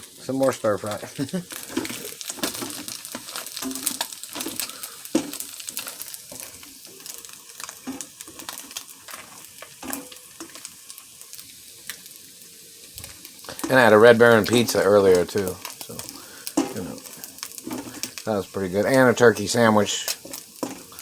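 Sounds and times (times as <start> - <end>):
crab meat sizzling in butter: 0.0 - 21.0
spoon stirring against a pan: 0.6 - 21.0.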